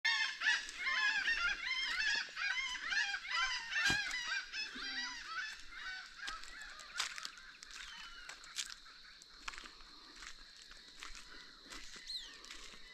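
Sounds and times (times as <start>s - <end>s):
flock of birds calling: 0.0s - 12.9s.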